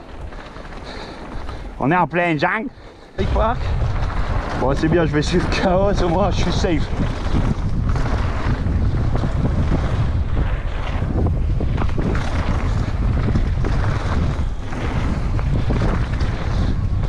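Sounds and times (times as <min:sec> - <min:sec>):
bike knocking and rattling: 0:00.0 - 0:17.0
tyres rolling over dirt: 0:00.0 - 0:17.0
wind buffeting microphone: 0:00.0 - 0:17.0.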